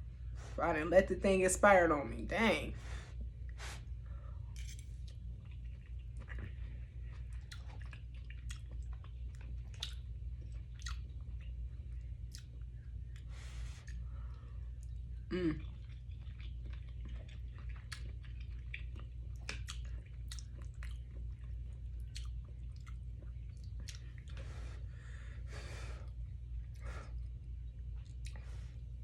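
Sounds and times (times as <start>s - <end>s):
low background hum: 0.0s - 29.0s
chewing with mouth clicks: 4.5s - 25.0s, 26.0s - 29.0s.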